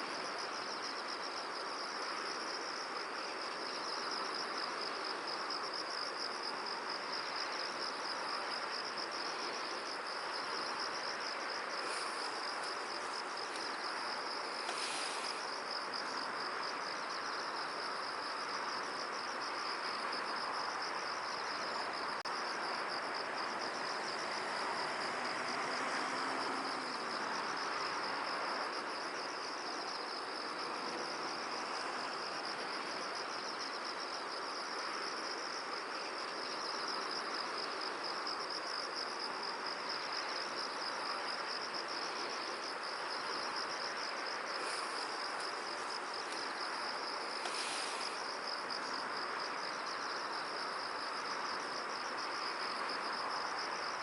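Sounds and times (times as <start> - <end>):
background hiss: 0.0 - 54.0
insects trilling: 0.0 - 54.0.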